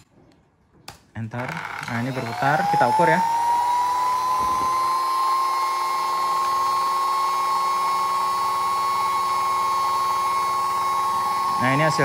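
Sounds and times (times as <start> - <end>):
router motor high whine: 1.4 - 12.0.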